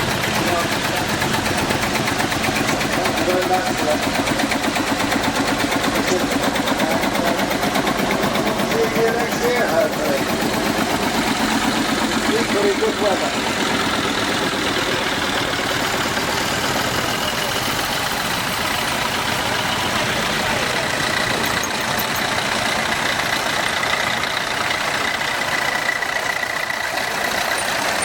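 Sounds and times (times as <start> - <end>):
tractor engines running: 0.0 - 28.0.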